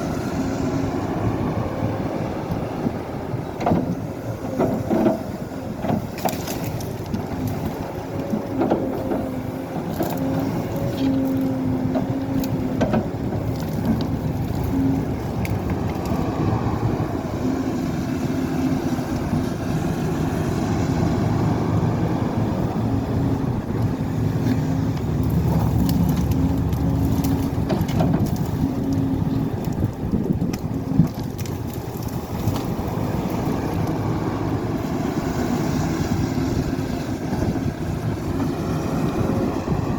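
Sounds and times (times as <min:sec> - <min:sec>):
excavator engine running: 0:00.0 - 0:39.9
knocks and crunching of digging: 0:03.6 - 0:39.9.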